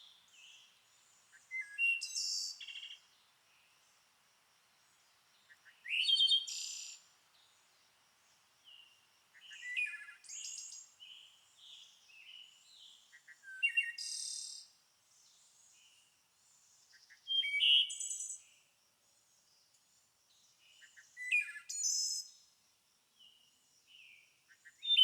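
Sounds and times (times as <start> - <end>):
songbirds singing and chirping: 0.0 - 4.0, 4.9 - 22.5, 23.2 - 25.0.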